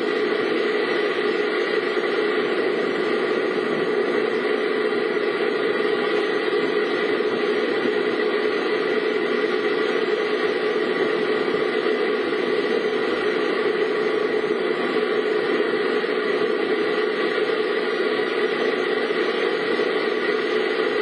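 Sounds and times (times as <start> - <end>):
car cabin engine and road noise: 0.0 - 21.0.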